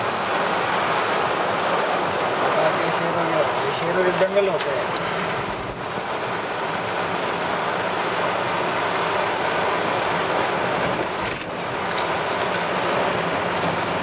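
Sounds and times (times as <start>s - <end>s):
heavy rain on car roof: 0.0s - 14.0s
tyres on wet road: 0.0s - 14.0s.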